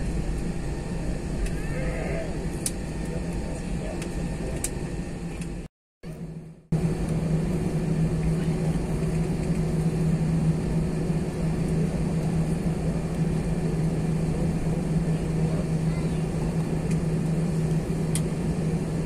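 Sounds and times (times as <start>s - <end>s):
jet engines humming: 0.0s - 19.0s.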